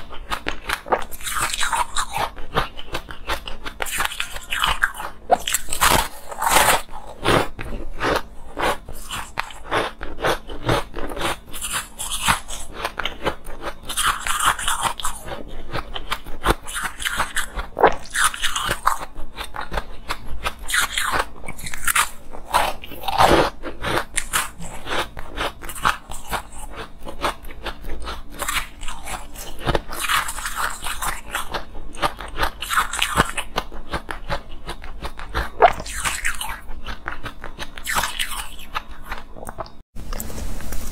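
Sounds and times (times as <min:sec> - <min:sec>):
ice crunching being chewed: 0:00.0 - 0:39.8.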